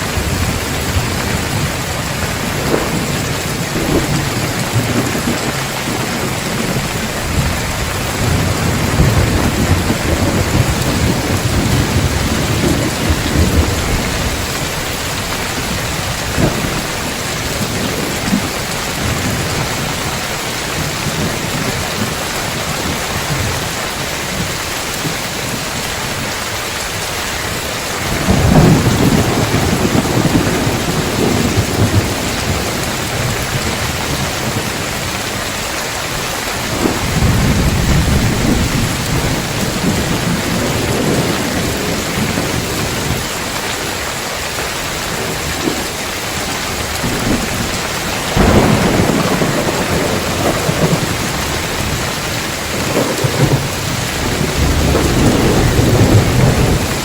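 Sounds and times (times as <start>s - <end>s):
thunder rumbling: 0.0s - 44.2s, 44.8s - 57.0s
heavy rain on roof tiles: 0.0s - 57.0s.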